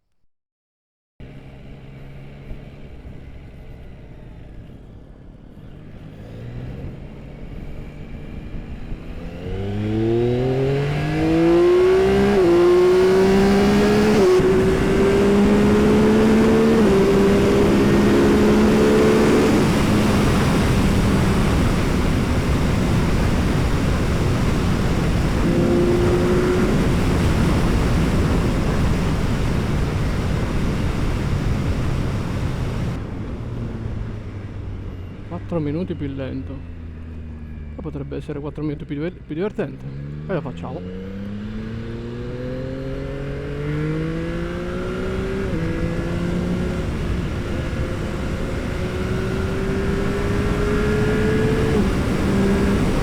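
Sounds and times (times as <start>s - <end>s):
motorcycle engine revving: 1.2s - 53.0s.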